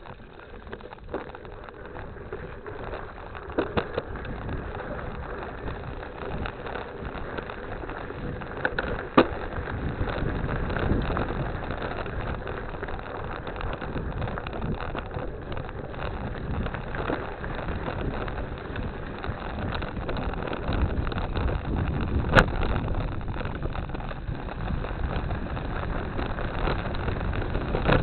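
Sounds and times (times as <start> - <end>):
bicycle rattles and knocks: 0.0 - 28.0
bicycle tyres rolling on wet ground: 0.0 - 28.0.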